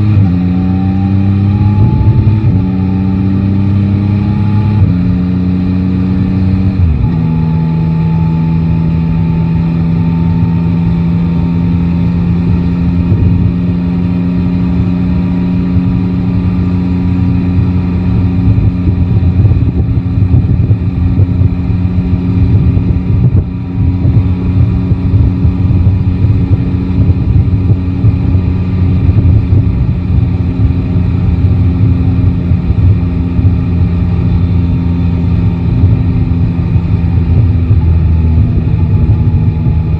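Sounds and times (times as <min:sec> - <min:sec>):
fluttering low rumble: 0:00.0 - 0:39.9
motorcycle engine running: 0:00.0 - 0:39.9.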